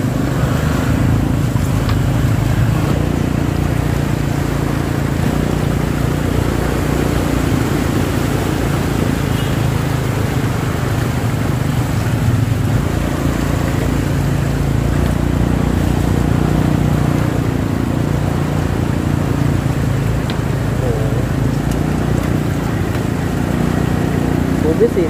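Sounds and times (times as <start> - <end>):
engines in slow traffic: 0.0 - 25.0
water sloshing and splashing: 0.0 - 25.0.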